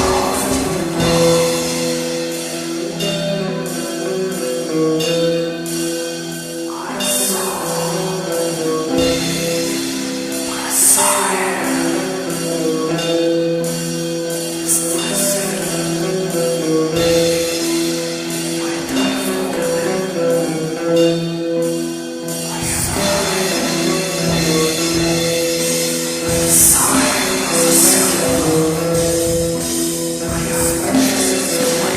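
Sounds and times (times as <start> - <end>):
slow metal song: 0.0 - 31.9.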